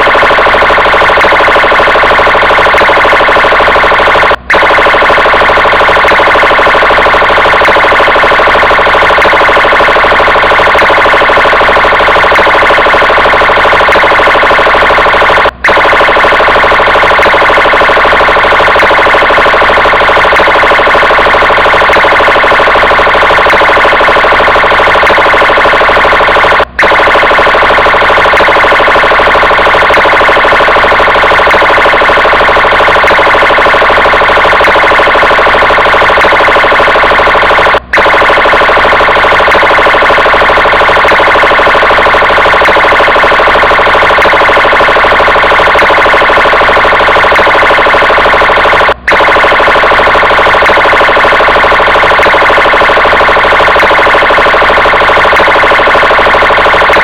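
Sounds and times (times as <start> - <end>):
police car siren: 0.0 - 57.0.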